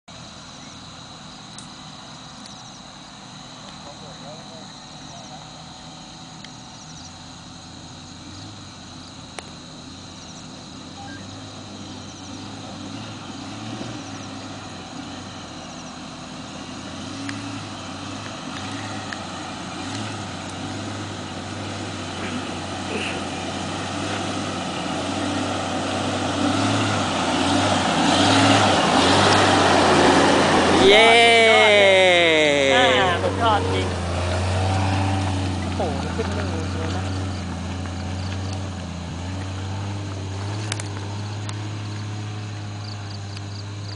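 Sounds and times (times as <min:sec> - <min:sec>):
car engine climbing hill: 0:00.0 - 0:43.9.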